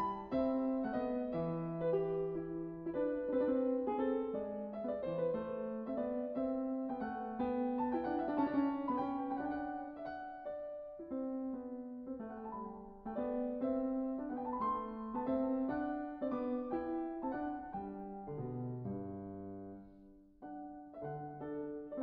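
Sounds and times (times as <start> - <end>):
piano notes: 0.0 - 22.0.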